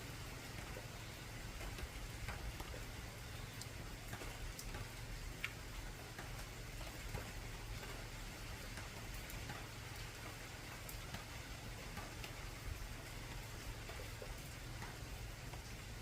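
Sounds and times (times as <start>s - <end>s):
rain on a tin roof: 0.0s - 16.0s.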